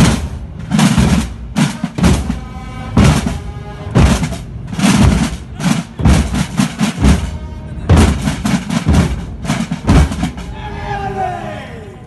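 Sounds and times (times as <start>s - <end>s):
marching drums beating: 0.0s - 11.1s.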